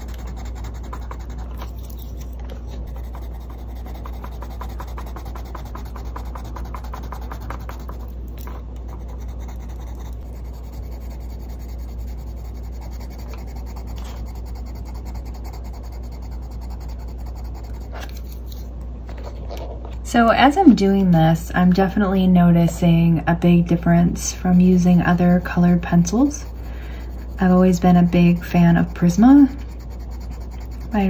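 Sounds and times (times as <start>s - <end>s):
pencil scratching on paper: 0.0s - 18.6s, 23.8s - 31.0s
steady low hum: 0.0s - 31.0s.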